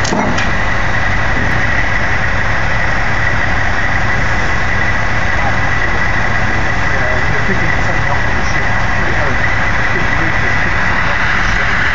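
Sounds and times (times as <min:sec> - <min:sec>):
high-pitched whine: 0:00.0 - 0:11.9
truck diesel engine idling: 0:00.0 - 0:11.9.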